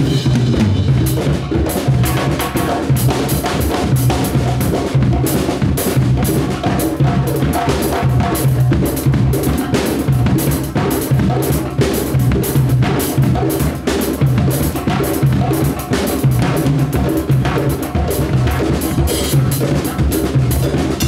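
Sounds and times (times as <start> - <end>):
drum kit: 0.0 - 21.0
hand drums playing rhythm: 0.0 - 21.0.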